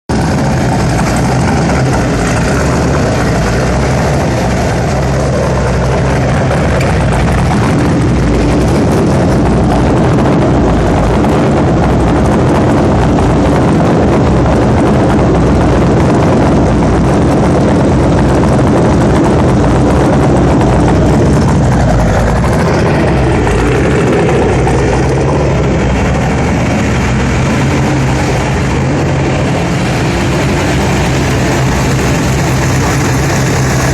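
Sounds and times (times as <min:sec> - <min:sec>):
car engine running loudly: 0:00.0 - 0:33.9.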